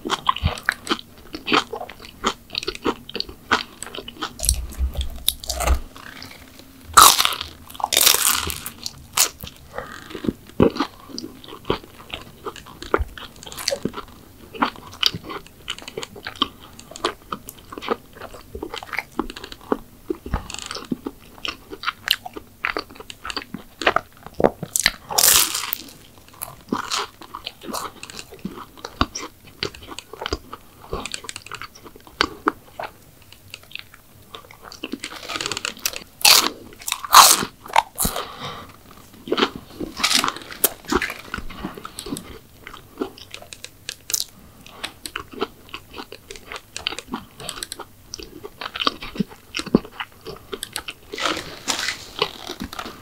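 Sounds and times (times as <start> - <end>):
crisp bites and wet chewing: 0.0 - 53.0.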